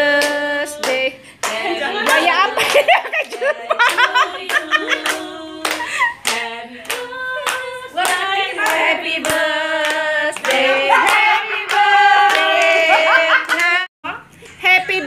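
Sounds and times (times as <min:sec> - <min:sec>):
women singing together: 0:00.0 - 0:13.9
people clapping in time: 0:00.2 - 0:13.9.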